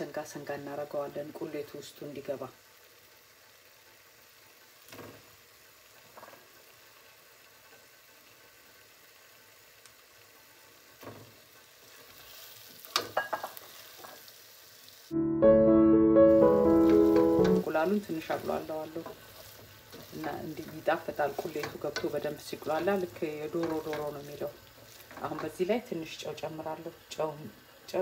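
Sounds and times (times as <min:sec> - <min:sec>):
sauce sizzling in steel pan: 0:00.0 - 0:15.2, 0:16.0 - 0:28.0.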